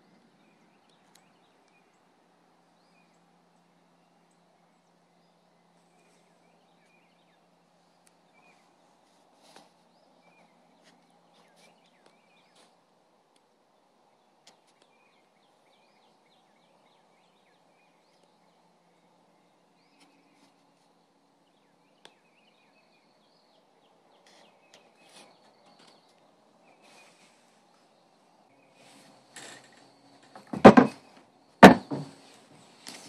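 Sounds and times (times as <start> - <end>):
faint birds chirping: 0.0 - 33.0
low steady hiss: 0.0 - 33.0.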